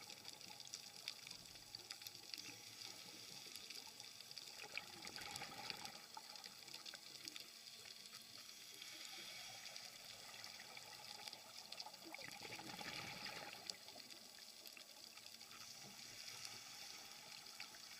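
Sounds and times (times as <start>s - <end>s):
crackle of small ticks: 0.0s - 17.9s
underwater exhaled bubbles gurgling: 0.0s - 17.9s.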